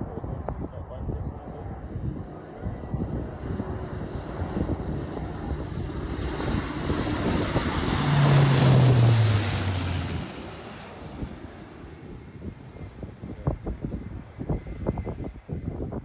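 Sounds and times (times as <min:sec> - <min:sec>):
turboprop aircraft flying past: 0:00.0 - 0:16.0.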